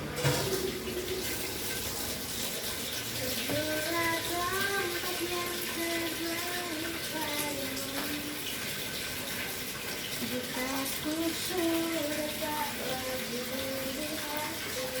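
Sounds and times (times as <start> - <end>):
water running from a tap: 0.0 - 15.0.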